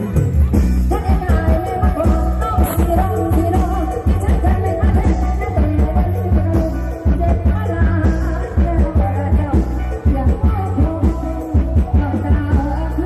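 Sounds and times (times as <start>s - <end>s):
live band playing amplified rock: 0.0s - 13.0s.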